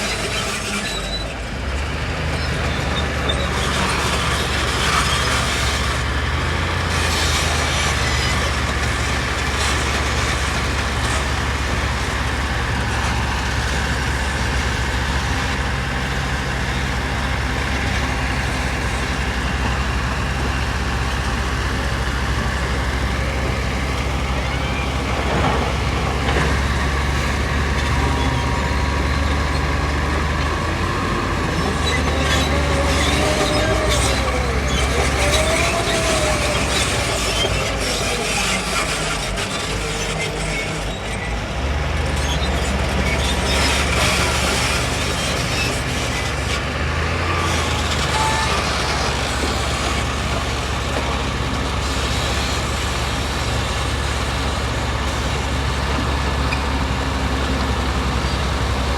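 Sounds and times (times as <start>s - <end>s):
diesel engine droning: 0.0s - 58.9s.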